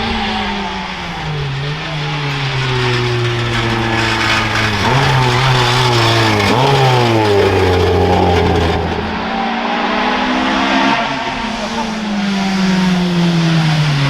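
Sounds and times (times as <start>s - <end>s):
race car engine running loud: 0.0s - 14.0s.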